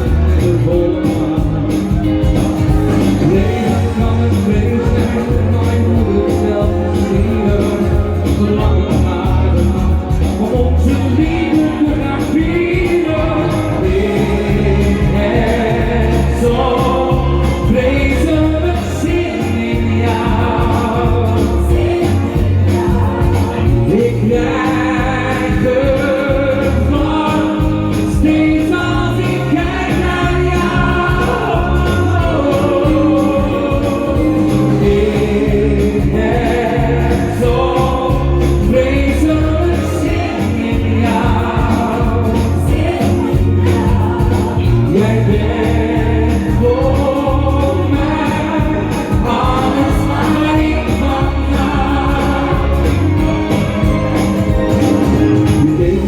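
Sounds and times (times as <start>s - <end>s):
loud pop song: 0.0s - 56.0s.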